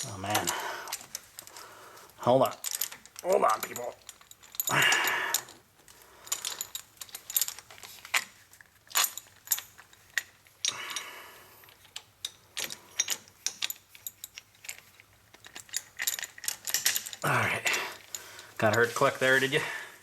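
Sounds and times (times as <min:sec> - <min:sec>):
metal clicks and clinks: 0:00.0 - 0:19.2.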